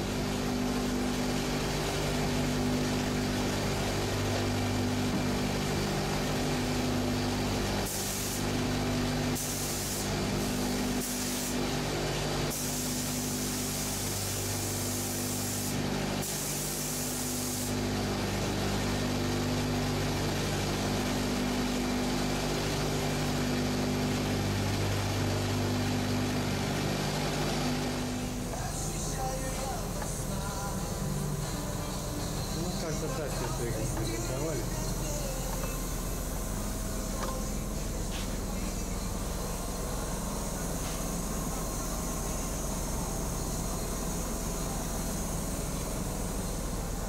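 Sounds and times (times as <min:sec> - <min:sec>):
pulsing machine hum: 0:00.0 - 0:16.3, 0:17.7 - 0:47.0
spray gun hiss: 0:00.1 - 0:19.3, 0:27.3 - 0:47.0.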